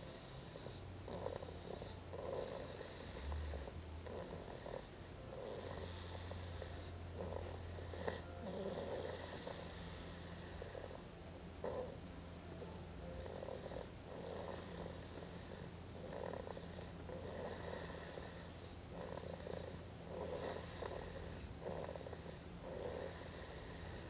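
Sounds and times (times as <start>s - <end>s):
rasping snores: 0.0s - 12.0s, 12.6s - 24.0s
constant low hum: 0.0s - 24.0s.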